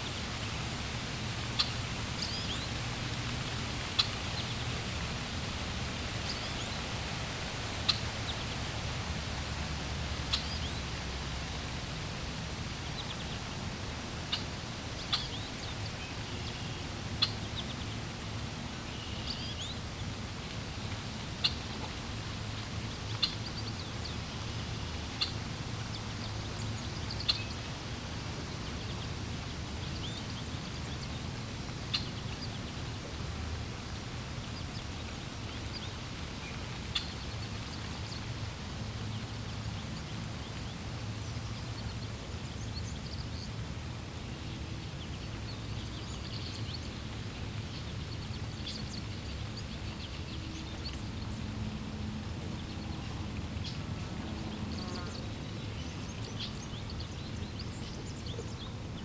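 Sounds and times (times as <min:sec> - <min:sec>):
water flowing: 0:00.0 - 0:59.0.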